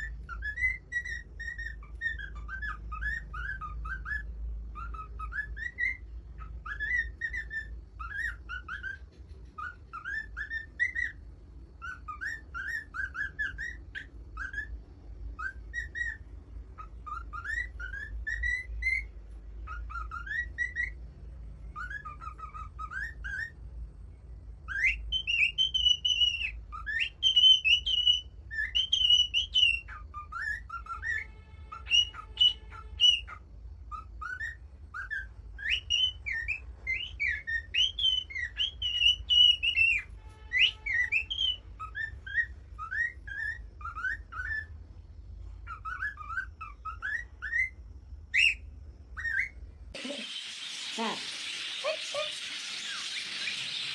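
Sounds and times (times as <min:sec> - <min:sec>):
parrot whistling: 0:00.0 - 0:11.2, 0:11.8 - 0:14.8, 0:15.4 - 0:21.0, 0:21.8 - 0:23.6, 0:24.7 - 0:44.8, 0:45.6 - 0:48.6, 0:49.2 - 0:53.9.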